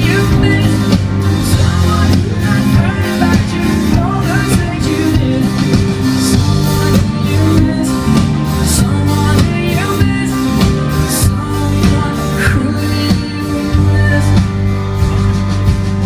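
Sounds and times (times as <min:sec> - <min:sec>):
person singing: 0:00.0 - 0:14.9
live pop-rock band: 0:00.0 - 0:16.0.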